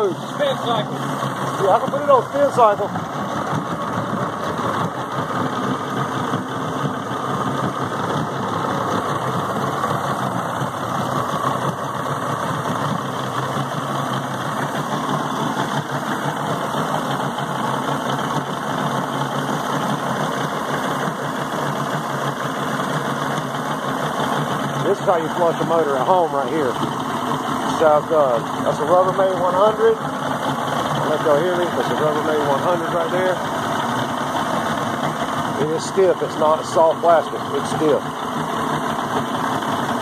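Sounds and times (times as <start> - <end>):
outboard engine idling: 0.0 - 40.0
water churning: 0.0 - 40.0.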